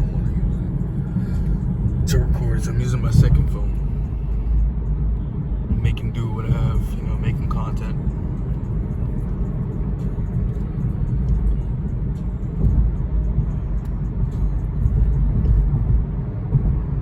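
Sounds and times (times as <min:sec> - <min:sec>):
car engine cruising: 0:00.0 - 0:17.0
road noise: 0:00.0 - 0:17.0.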